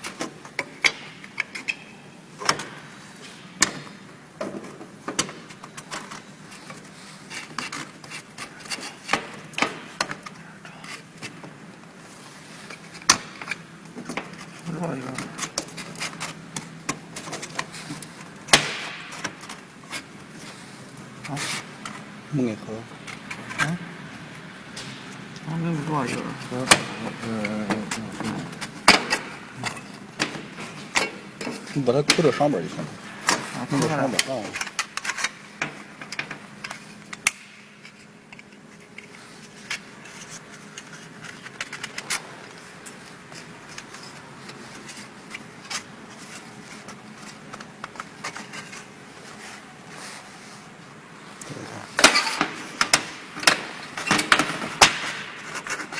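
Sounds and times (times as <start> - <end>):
parts clicking and scraping: 0.0 - 55.9.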